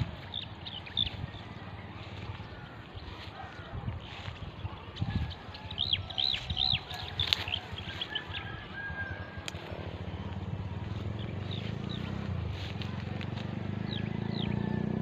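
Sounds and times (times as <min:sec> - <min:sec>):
low rumbling drone: 0:00.0 - 0:14.8.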